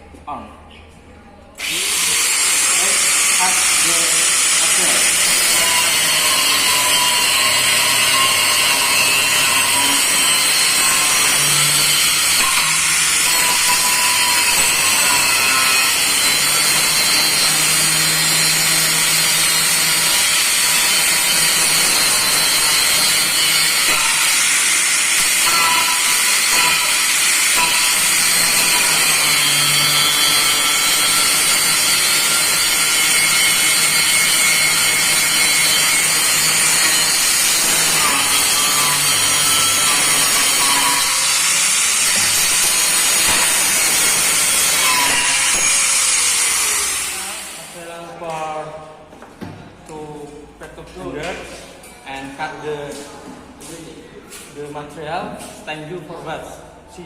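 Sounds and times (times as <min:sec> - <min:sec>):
electric grinder grinding: 0:01.6 - 0:47.8.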